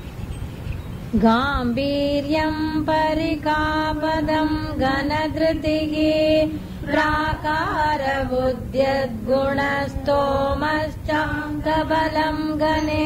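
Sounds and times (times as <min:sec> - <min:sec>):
person chanting melodically: 0:01.2 - 0:13.0.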